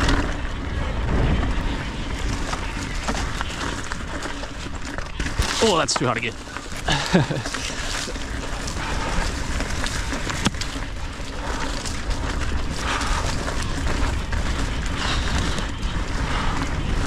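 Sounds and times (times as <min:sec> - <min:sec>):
tyres rushing on dirt: 0:00.0 - 0:17.0
wind rumbling on microphone: 0:00.0 - 0:17.0.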